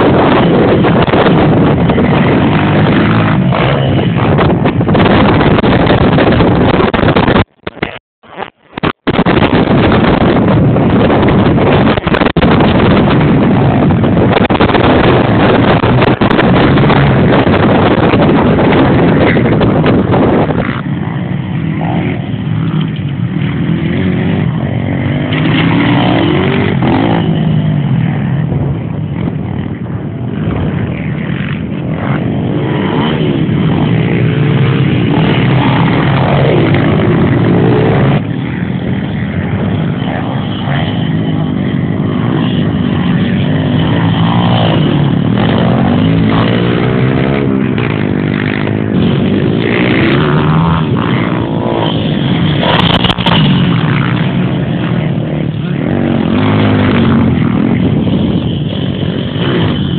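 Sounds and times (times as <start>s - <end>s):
motocross bikes revving: 0.0s - 59.9s
wind buffeting on microphone: 0.0s - 59.9s.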